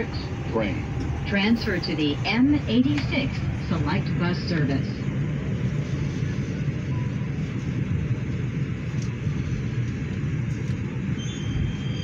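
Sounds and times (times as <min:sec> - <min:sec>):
subway car rumble: 0:00.0 - 0:12.0.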